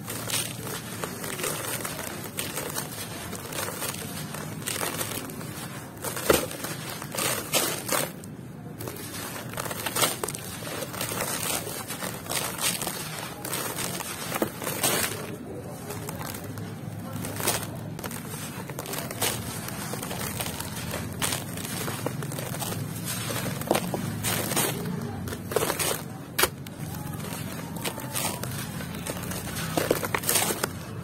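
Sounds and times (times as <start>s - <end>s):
dry moulded shapes crunching: 0.0s - 31.0s.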